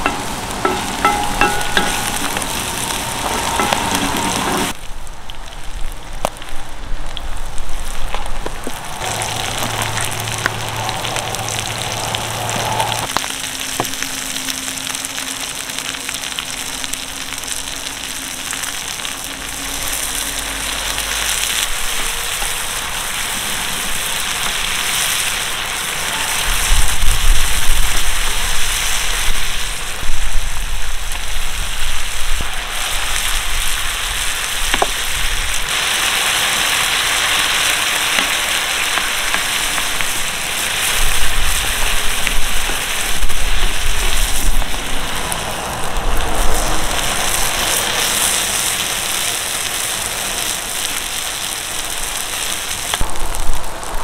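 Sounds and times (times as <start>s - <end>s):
food sizzling in a griddle pan: 0.0s - 4.8s, 5.6s - 54.0s.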